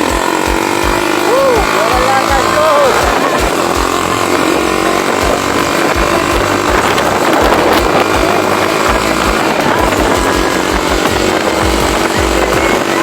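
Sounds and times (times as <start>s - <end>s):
motorcycle engine hum: 0.0s - 13.0s
wind buffeting microphone: 0.0s - 13.0s.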